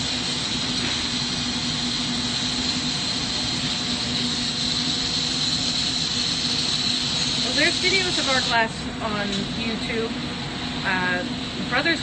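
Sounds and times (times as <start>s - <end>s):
ventilation running: 0.0s - 12.0s.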